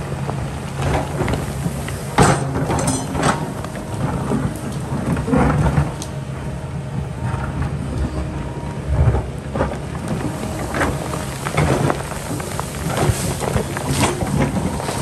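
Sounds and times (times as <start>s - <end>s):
excavator diesel engine running: 0.0s - 15.0s
bucket scraping rock and earth: 0.8s - 6.2s, 7.2s - 15.0s.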